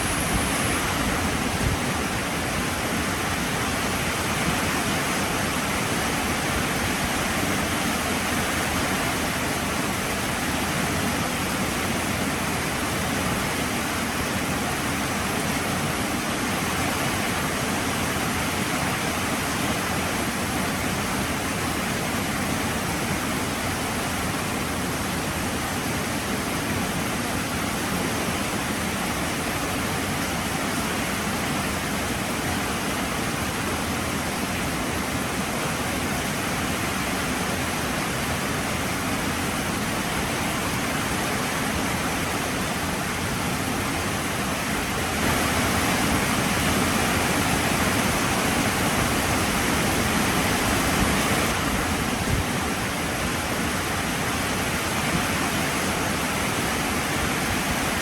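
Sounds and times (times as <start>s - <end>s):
heavy rain falling: 0.0s - 20.9s, 26.6s - 58.0s.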